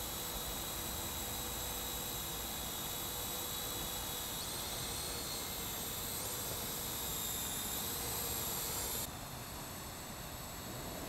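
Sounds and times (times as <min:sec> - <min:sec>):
drone motors whining: 0:00.0 - 0:09.1.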